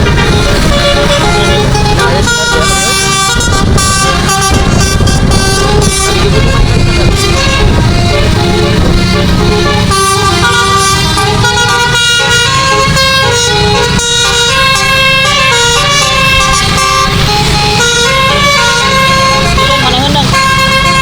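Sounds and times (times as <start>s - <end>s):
musical air horn melody: 0.0s - 21.0s
steady low rumble: 0.0s - 21.0s.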